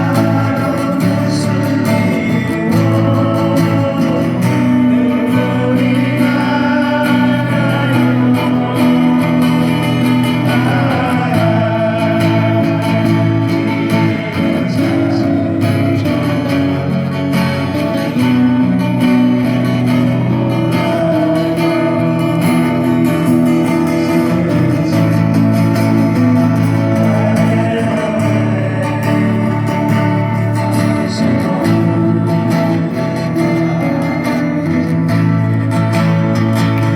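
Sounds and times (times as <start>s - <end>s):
acoustic guitars playing: 0.0s - 36.9s
person singing: 0.0s - 36.9s.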